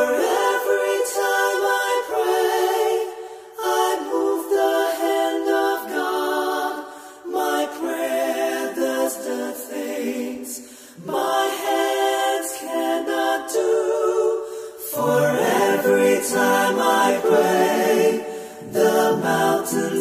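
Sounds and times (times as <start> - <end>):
unaccompanied voices singing: 0.0 - 20.0.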